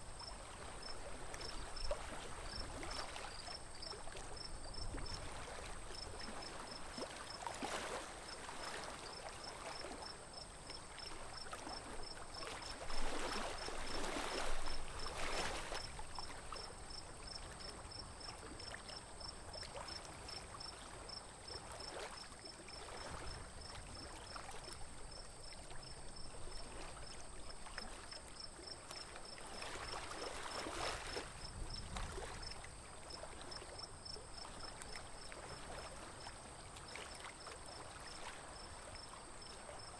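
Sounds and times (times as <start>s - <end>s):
water lapping against a boat: 0.0s - 39.9s.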